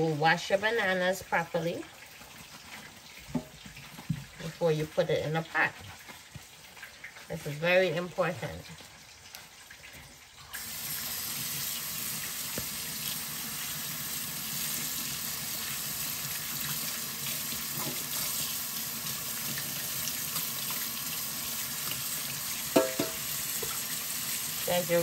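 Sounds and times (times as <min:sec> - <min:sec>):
tap water running into sink: 0:01.1 - 0:25.0.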